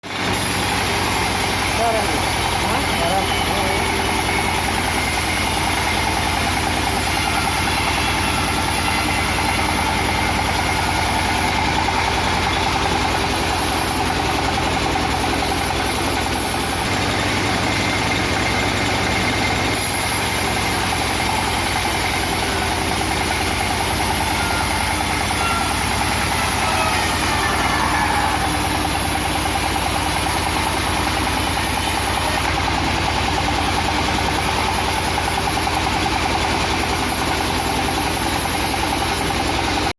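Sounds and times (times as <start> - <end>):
woodcutting machine engine running: 0.0 - 39.9.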